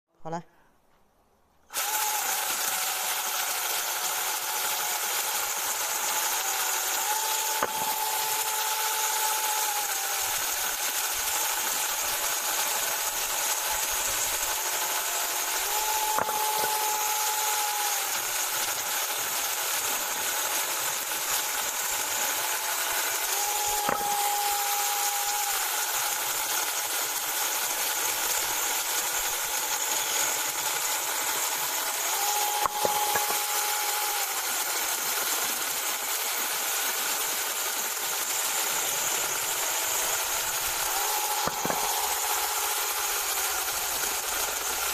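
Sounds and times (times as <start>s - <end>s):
mini chainsaw cutting wood: 1.7s - 44.9s.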